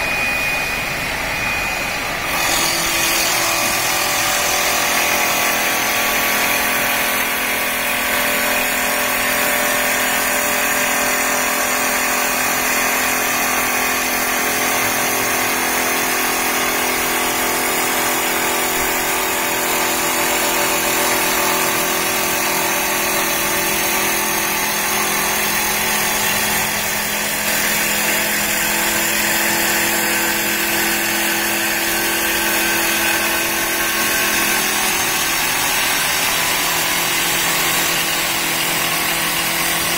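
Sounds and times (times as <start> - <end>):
wood lathe motor hum: 2.2 - 17.2, 17.9 - 39.9
lathe cutting wood: 2.2 - 39.9.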